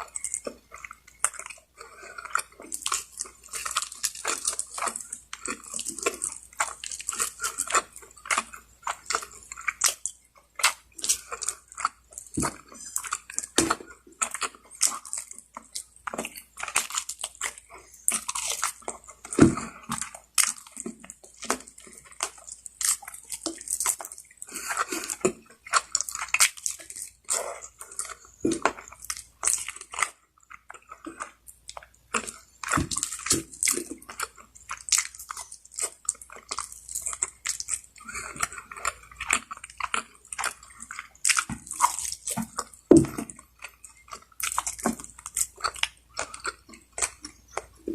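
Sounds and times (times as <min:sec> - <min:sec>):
mouth clicks and smacks: 0:00.0 - 0:47.9
wet chewing and crunching: 0:00.0 - 0:47.9.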